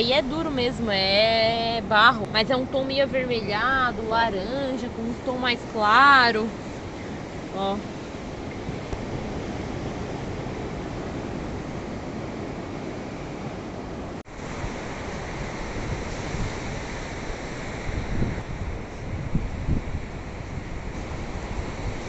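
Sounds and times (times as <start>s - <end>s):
ocean surf rushing: 0.0s - 22.0s
wind buffeting microphone: 0.0s - 22.0s.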